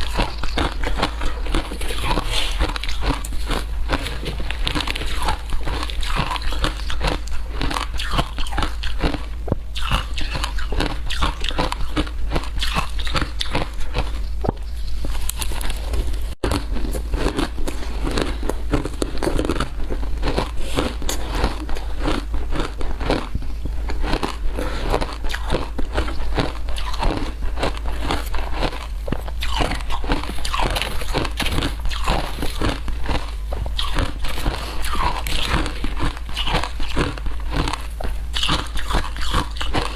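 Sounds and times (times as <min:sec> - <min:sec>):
ice being chewed crunching: 0:00.0 - 0:39.9
steady low hum: 0:00.0 - 0:39.9.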